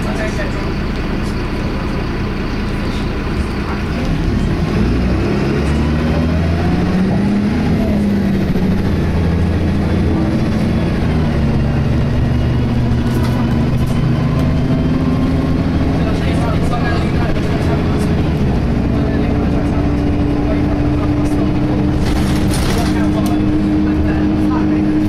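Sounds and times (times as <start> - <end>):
bus diesel engine running: 0.0 - 25.0.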